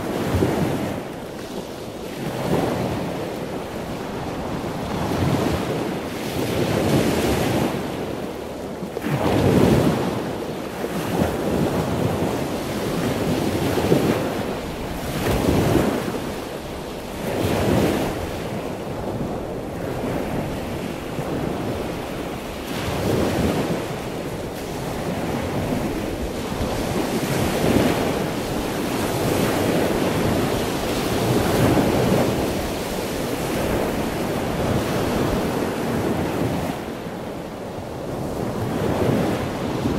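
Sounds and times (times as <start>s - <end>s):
sea waves washing in: 0.0s - 39.9s
wind: 0.0s - 39.9s.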